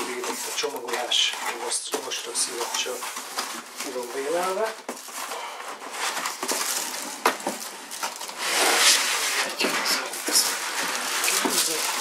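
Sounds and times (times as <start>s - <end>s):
foam scraping and squeaking on cardboard: 0.0s - 7.2s, 8.0s - 12.0s
plastic rustling: 0.0s - 12.0s.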